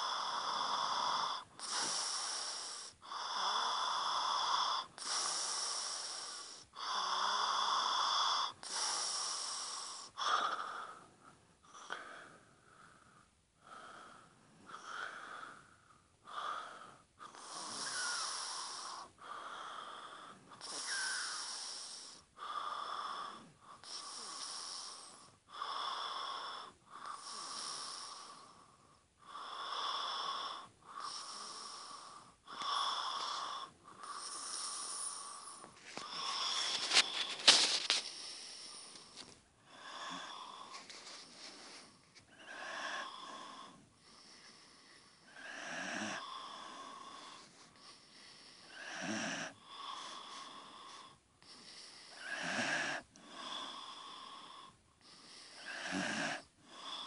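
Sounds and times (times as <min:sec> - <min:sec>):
heavy wheezy snoring: 0:00.0 - 0:57.0.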